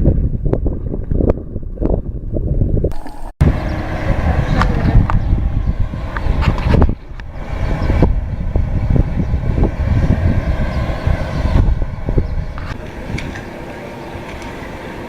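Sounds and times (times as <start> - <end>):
underwater rumbling: 0.0 - 13.4.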